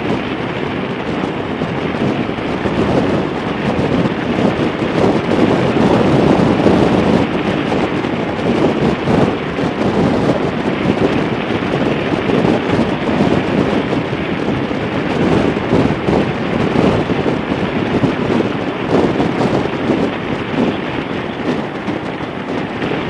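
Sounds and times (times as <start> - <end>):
motorcycle running: 0.0 - 23.0
wind buffeting microphone: 0.0 - 23.0.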